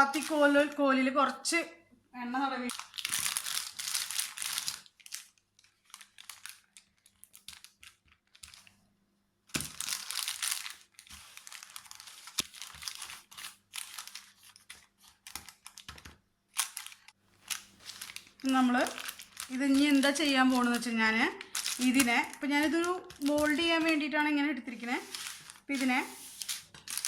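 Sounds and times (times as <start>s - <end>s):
paper crinkling under rolling pin: 0.0s - 0.7s, 2.7s - 8.7s, 9.6s - 27.0s.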